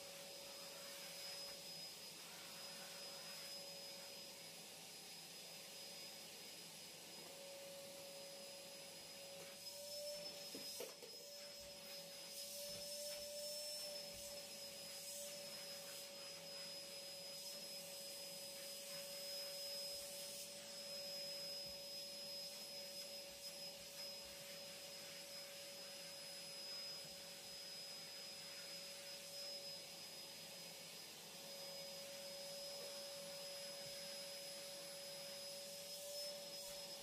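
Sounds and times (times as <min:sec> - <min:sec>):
vacuum cleaner whine: 0:00.0 - 0:37.0.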